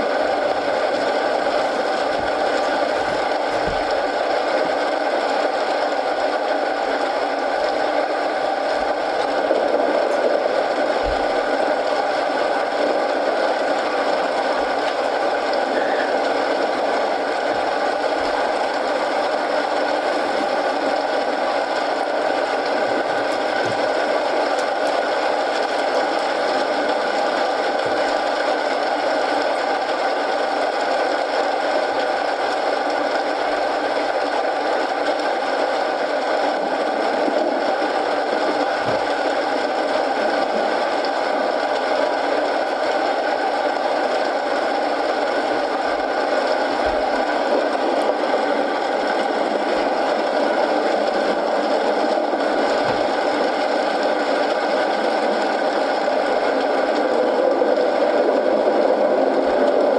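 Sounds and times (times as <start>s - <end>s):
faint wood fire crackles: 0.0s - 59.9s
steady rain falling: 0.0s - 59.9s.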